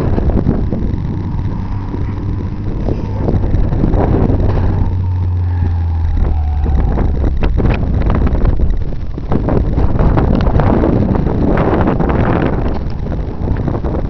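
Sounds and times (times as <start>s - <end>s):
car engine driving: 0.0s - 14.0s
wind on microphone: 0.0s - 14.0s.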